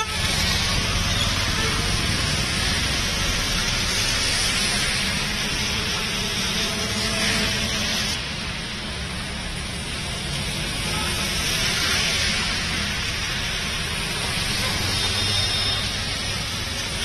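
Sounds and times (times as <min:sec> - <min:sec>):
heavy rain on a wet road: 0:00.0 - 0:17.0.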